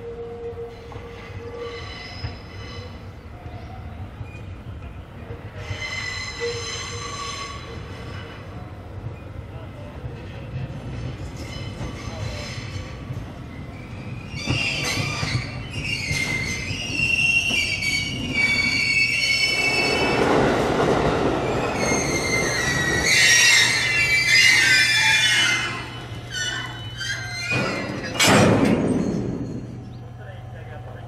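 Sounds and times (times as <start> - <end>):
locomotive wheels squealing: 0.0 - 4.7, 5.4 - 9.4, 11.1 - 30.2.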